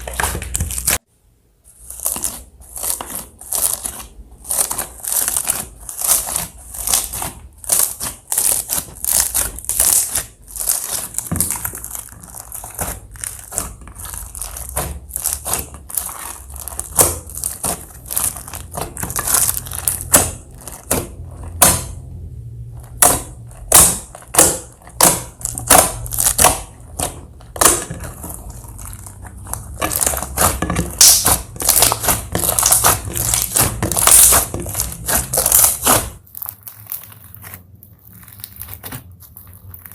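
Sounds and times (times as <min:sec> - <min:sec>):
slime crackling and popping: 0:00.0 - 0:01.0, 0:01.8 - 0:39.9.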